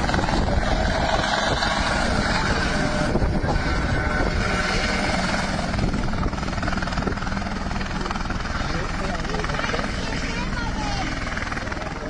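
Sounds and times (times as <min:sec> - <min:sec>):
helicopter engine running: 0:00.0 - 0:12.0
helicopter rotor beat: 0:00.0 - 0:12.0.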